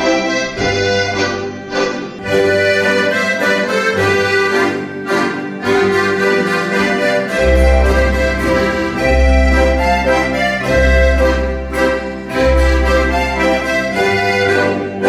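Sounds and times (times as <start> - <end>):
accordion chords: 0.0 - 15.0
cello: 0.0 - 15.0.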